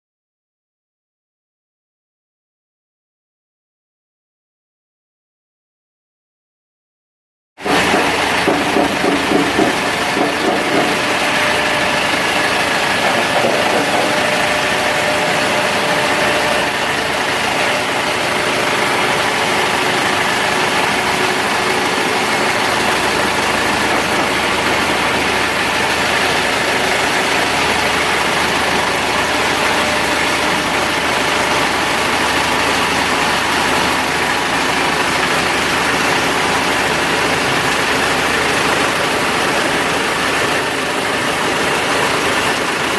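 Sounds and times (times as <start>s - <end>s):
diesel generator running: 7.6s - 42.9s.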